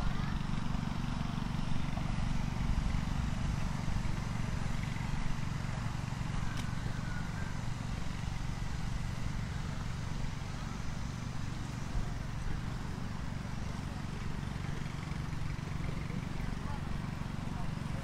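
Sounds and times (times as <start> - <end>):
outdoor ambience rumble: 0.0 - 18.0.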